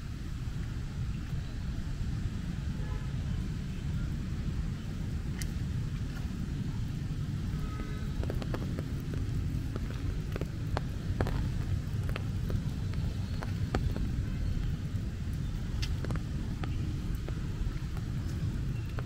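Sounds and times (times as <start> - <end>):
steady low rumble: 0.0 - 19.0
rain drops tapping on umbrella: 3.4 - 19.0.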